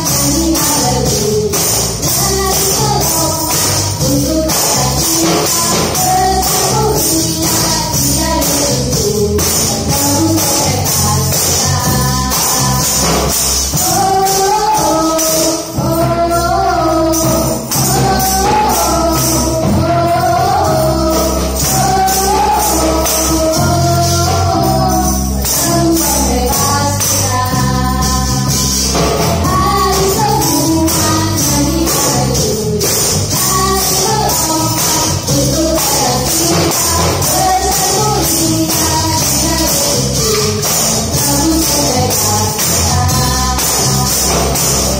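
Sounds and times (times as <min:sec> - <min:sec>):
tambourines jingling: 0:00.0 - 0:44.9
worship song with singing voice: 0:00.0 - 0:44.9.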